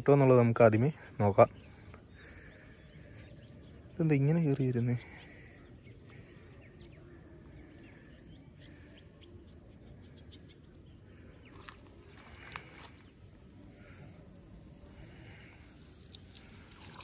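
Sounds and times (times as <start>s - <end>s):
faint bird chirps: 0.9s - 17.0s.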